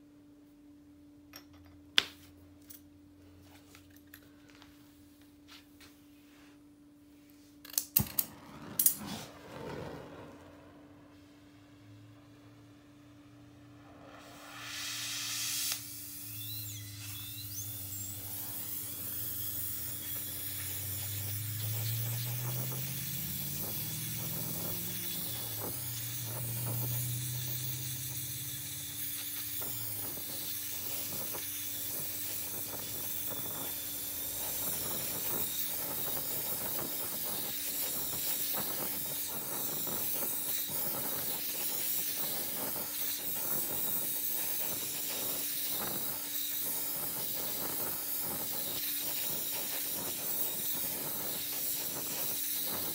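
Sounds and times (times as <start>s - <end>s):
torch flame hissing: 7.7s - 52.9s.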